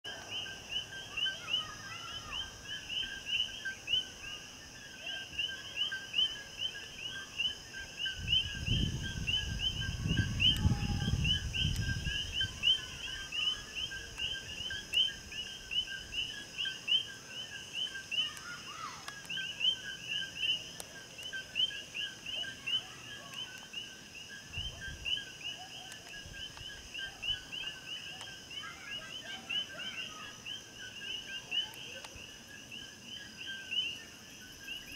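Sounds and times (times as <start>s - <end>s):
frogs chirping: 0.1s - 34.9s
high insect hum: 0.1s - 34.9s.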